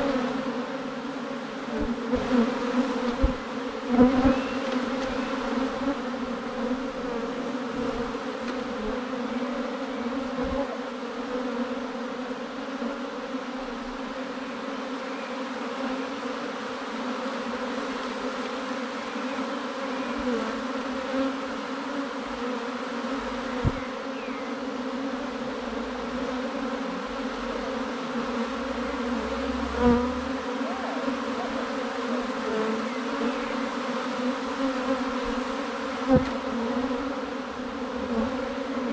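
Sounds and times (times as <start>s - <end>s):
bee swarm buzzing: 0.0s - 38.9s.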